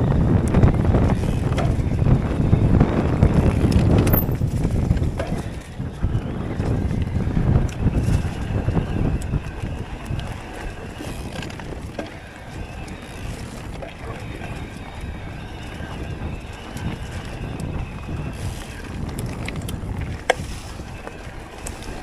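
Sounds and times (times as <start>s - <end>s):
tyres rumbling over dirt: 0.0s - 22.0s
wind buffeting microphone: 0.0s - 22.0s
bike clicks and rattles: 0.1s - 22.0s.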